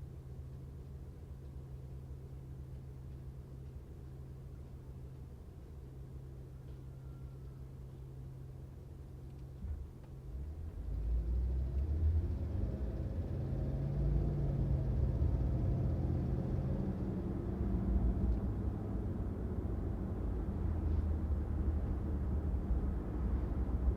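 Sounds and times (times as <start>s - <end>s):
car engine and road rumble: 0.0s - 23.9s.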